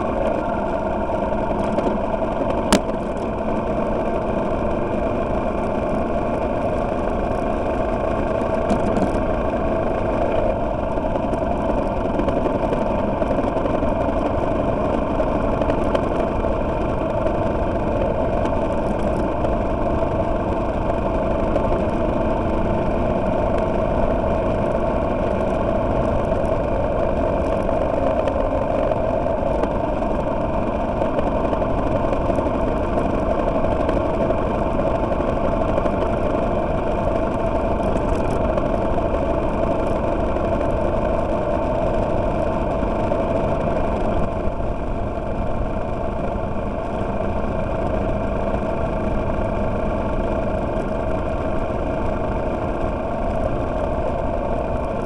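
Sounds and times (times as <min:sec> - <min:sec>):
motorcycle engine running: 0:00.0 - 0:55.0
road noise: 0:00.0 - 0:55.0
wind noise: 0:00.0 - 0:55.0.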